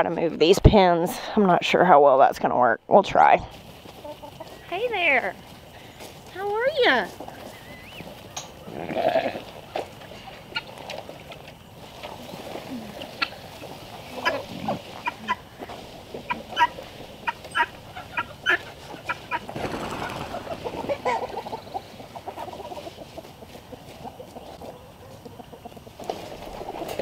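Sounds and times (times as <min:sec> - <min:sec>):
poultry clucking: 0:03.5 - 0:27.0.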